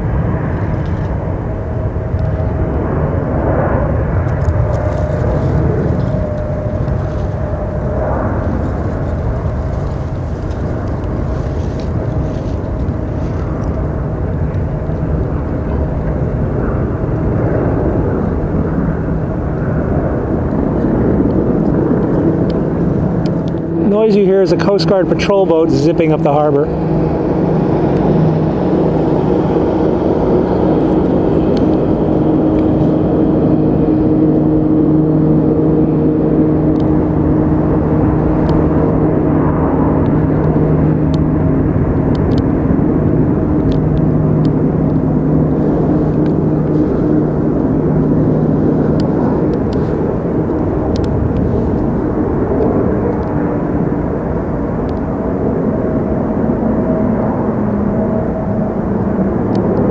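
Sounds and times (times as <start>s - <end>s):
helicopters droning: 0.0s - 59.9s.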